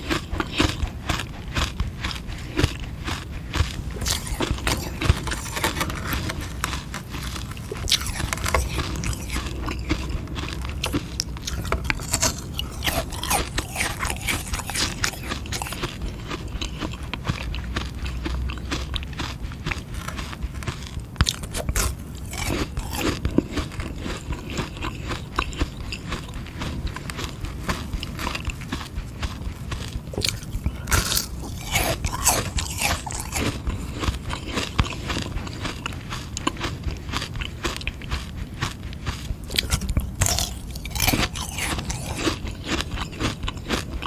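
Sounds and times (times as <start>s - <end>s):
crunching ice pop: 0.0s - 44.0s.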